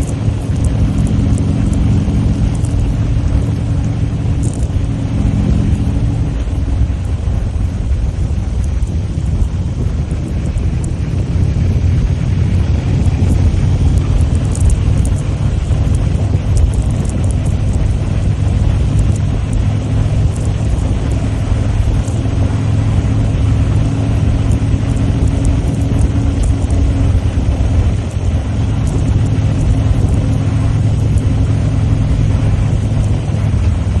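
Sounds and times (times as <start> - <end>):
motorcycle engine running: 0.0 - 34.0
rushing wind noise: 0.0 - 34.0.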